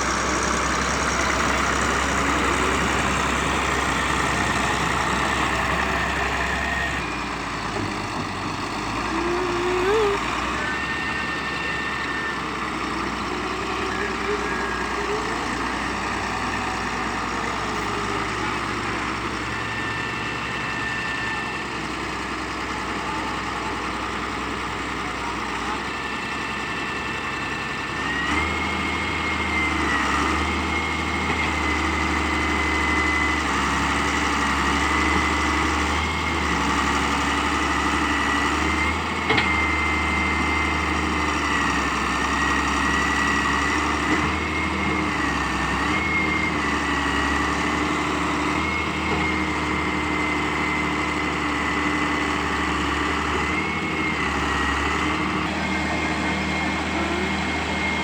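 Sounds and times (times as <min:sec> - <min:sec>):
excavator diesel engine whine: 0:00.0 - 0:58.0.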